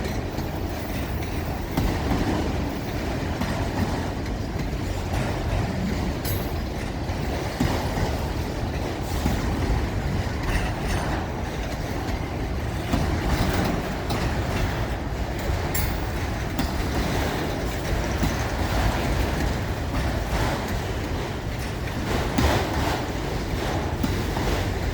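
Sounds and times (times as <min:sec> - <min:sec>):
train rumbling past: 0:00.0 - 0:24.9
train wheels clanking on rail joints: 0:00.0 - 0:24.9.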